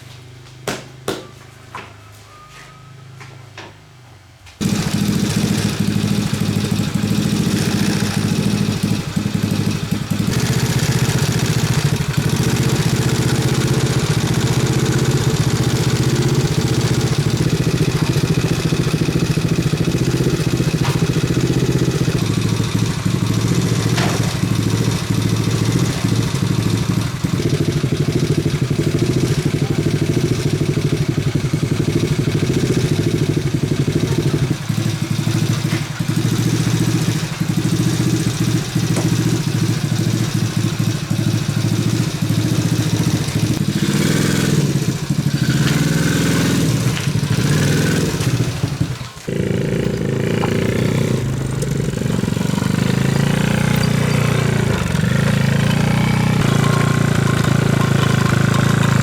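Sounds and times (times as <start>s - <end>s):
motorbike engine running: 4.6s - 59.0s.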